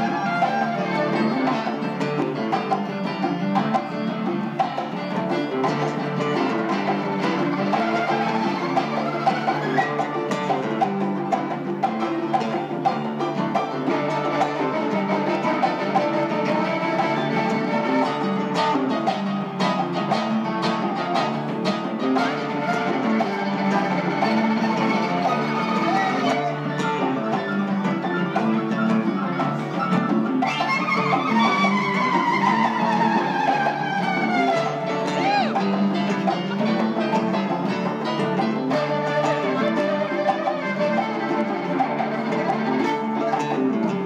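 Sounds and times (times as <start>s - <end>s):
guitars plucking melody: 0.0s - 44.0s
hand-drummed congas: 0.0s - 44.0s
violin: 0.0s - 44.0s.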